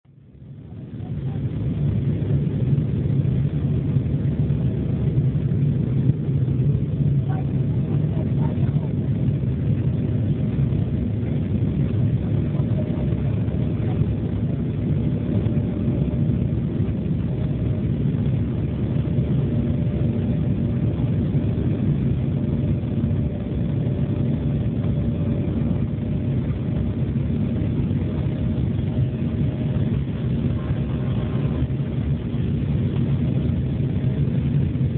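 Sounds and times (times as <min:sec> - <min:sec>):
jet airliner cabin rumble: 0:00.0 - 0:34.9
faint steady hum: 0:00.1 - 0:34.9.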